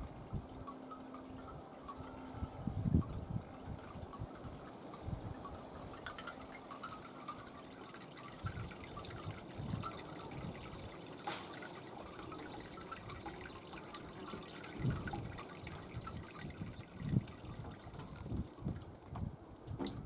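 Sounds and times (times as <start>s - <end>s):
water dripping and trickling: 0.0s - 20.0s.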